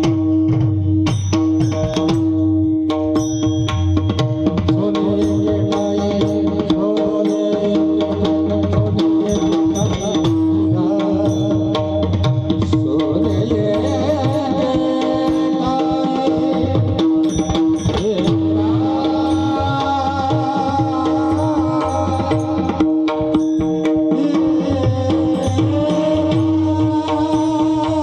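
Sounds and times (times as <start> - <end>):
mridang drumming: 0.0 - 28.0.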